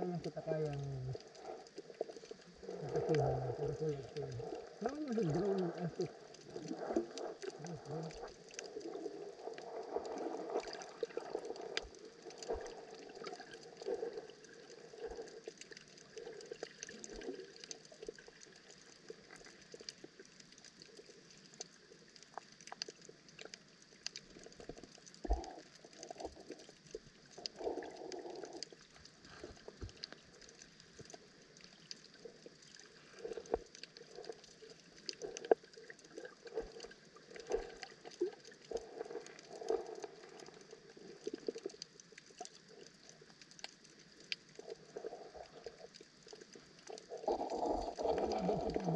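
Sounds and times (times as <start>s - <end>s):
rushing water swells: 0.0s - 21.4s, 24.1s - 48.9s
underwater clicks crackling: 0.0s - 48.9s.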